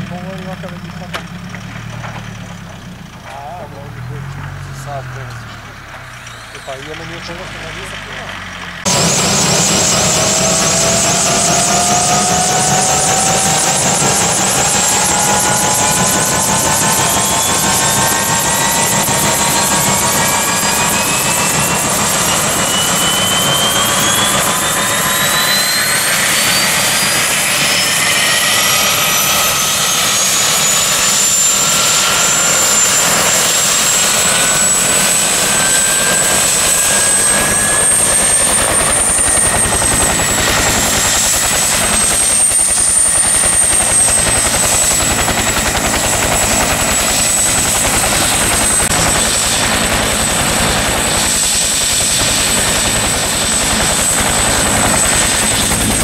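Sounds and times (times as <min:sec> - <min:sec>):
helicopter rotor and engine noise: 0:00.0 - 0:56.0
turbine whine: 0:00.0 - 0:56.0.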